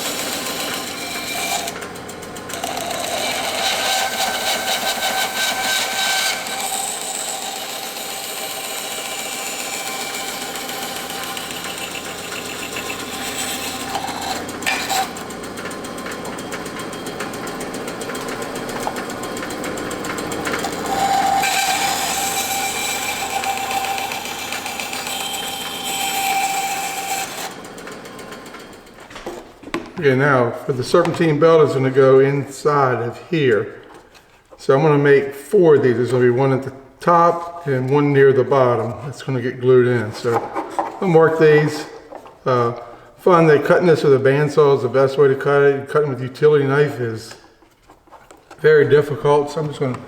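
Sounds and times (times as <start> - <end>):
bandsaw cutting wood: 0.0 - 32.5, 36.0 - 45.5.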